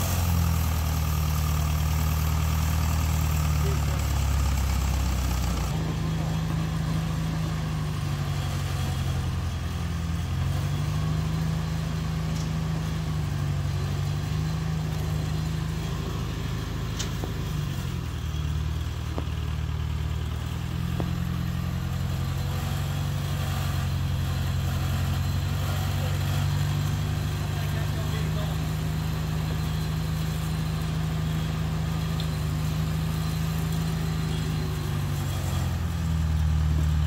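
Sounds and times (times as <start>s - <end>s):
tractor engine running steadily: 0.0s - 37.0s.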